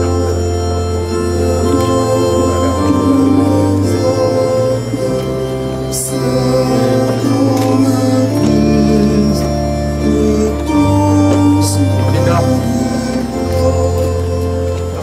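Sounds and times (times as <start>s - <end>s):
organ chords: 0.0s - 15.0s
voices singing: 0.0s - 15.0s.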